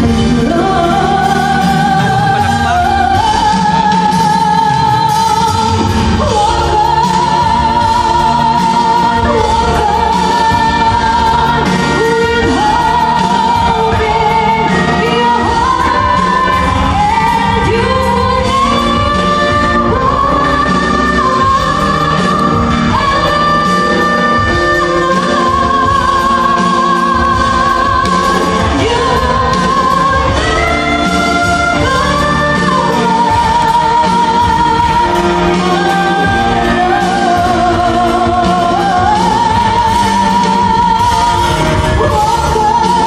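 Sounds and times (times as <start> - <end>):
band playing: 0.0 - 43.0
woman singing: 0.0 - 43.0.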